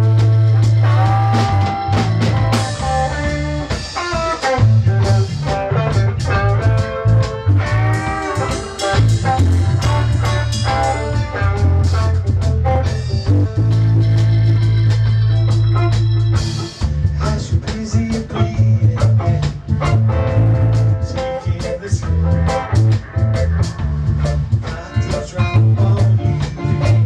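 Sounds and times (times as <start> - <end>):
bass line: 0.0 - 27.0
drums: 0.0 - 27.0
electric guitar lead lines: 0.0 - 27.0.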